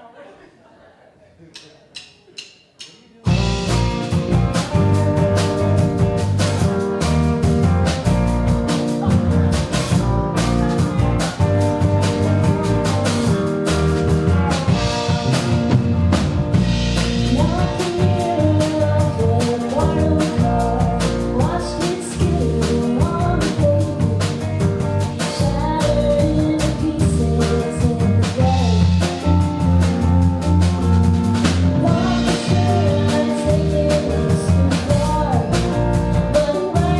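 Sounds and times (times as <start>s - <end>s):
live rock band playing: 3.2s - 36.9s.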